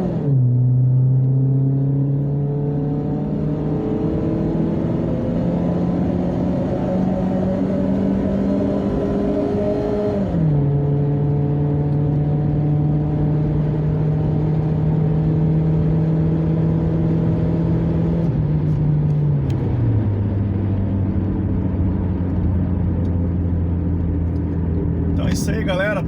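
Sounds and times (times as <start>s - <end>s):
car engine through open exhaust: 0.0s - 26.0s.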